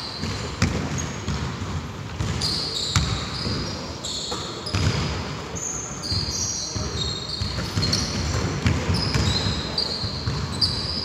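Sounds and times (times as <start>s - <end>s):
sneaker squeaks on floor: 0.0s - 1.5s, 2.2s - 11.0s.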